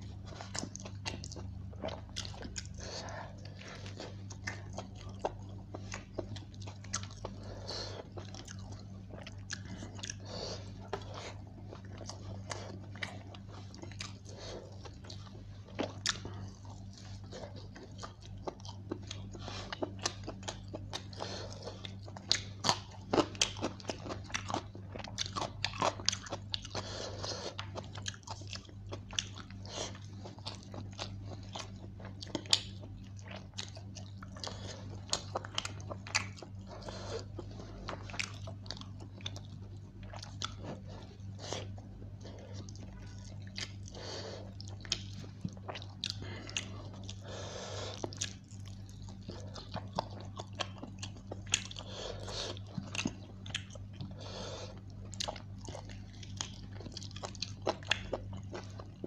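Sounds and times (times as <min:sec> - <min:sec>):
person chewing and lip smacking: 0:00.0 - 0:59.0.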